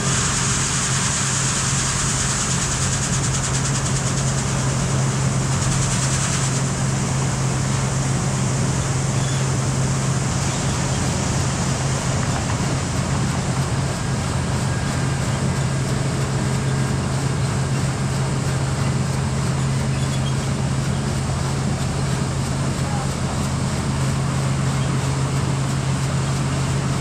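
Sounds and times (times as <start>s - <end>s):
farm machinery engine running: 0.0s - 27.0s.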